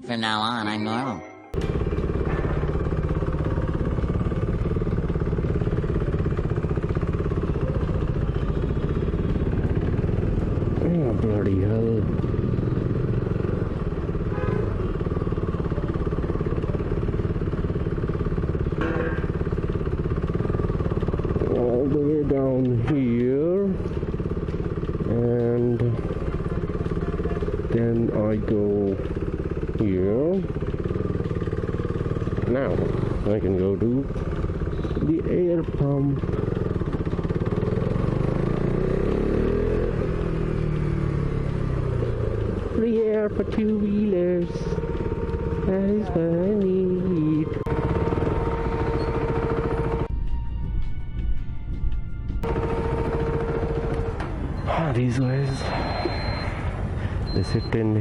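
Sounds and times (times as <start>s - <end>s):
motorcycle engine running: 1.6s - 58.0s.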